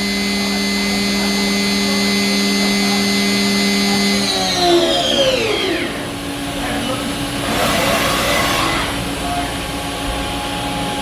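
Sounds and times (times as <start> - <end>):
machine spindle whine: 0.0 - 11.0.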